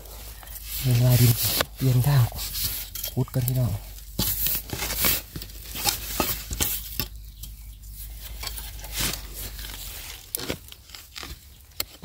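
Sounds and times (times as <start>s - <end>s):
digging tool scraping sandy soil: 0.0s - 12.0s.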